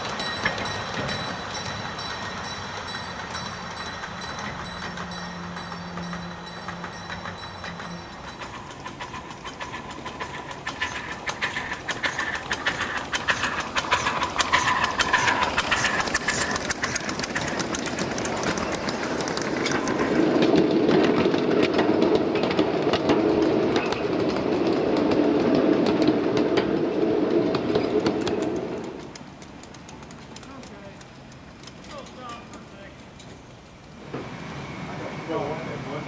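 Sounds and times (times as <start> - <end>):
steam locomotive chuffing: 0.0 - 36.0.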